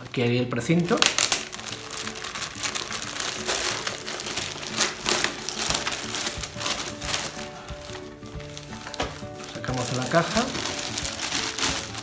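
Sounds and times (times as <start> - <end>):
plastic packaging crinkling: 0.7 - 12.0.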